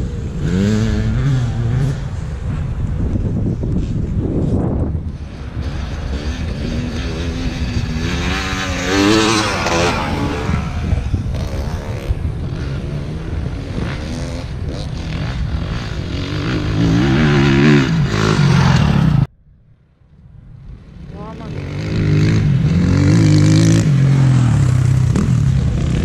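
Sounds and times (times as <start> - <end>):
motorcycle engines revving: 0.0 - 19.3, 20.4 - 26.0
wind rumble on microphone: 0.0 - 26.0.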